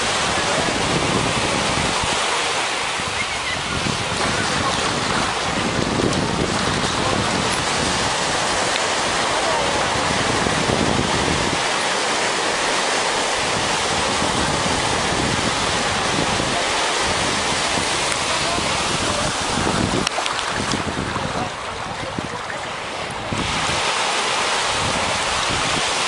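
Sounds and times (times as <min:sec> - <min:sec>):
surf breaking in shallows: 0:00.0 - 0:26.0
wind noise on microphone: 0:00.0 - 0:26.0.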